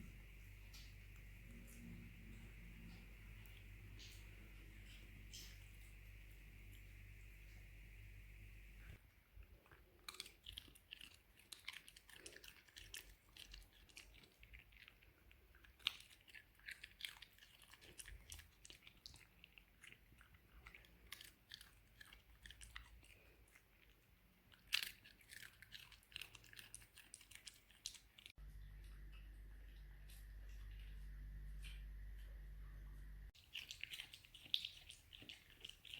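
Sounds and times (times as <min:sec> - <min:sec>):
dog chewing food: 0:00.0 - 0:28.3, 0:33.4 - 0:35.9.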